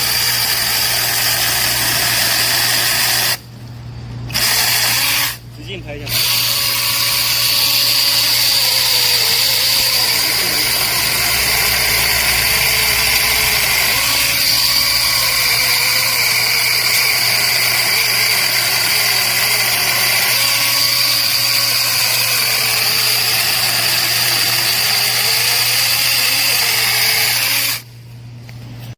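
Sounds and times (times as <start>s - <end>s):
electric chainsaw motor whining: 0.0s - 3.4s, 4.3s - 27.9s.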